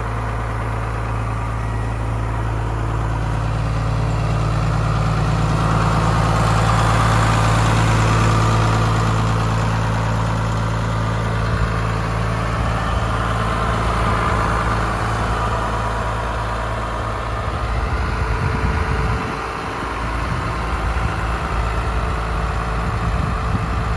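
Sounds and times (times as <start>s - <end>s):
tractor diesel engine idling: 0.0s - 23.9s.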